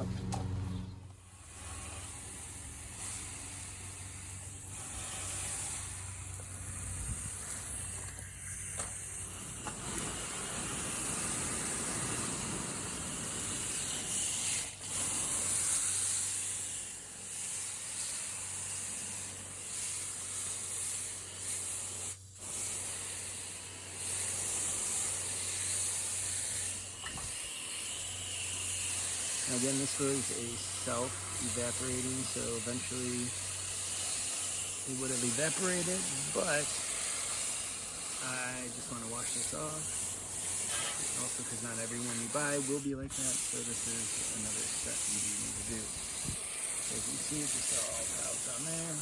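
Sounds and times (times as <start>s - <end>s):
hose water spraying into coil fins: 1.1s - 49.0s.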